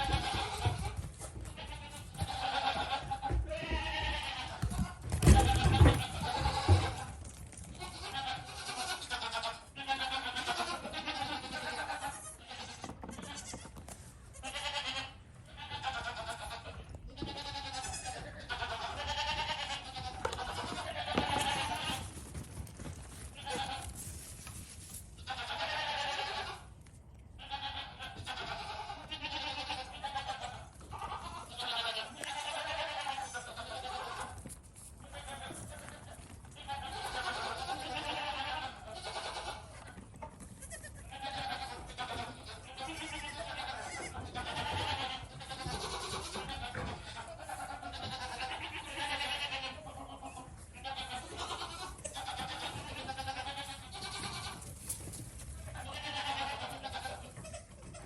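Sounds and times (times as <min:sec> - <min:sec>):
goats bleating: 0:00.0 - 0:22.3, 0:22.9 - 0:58.0.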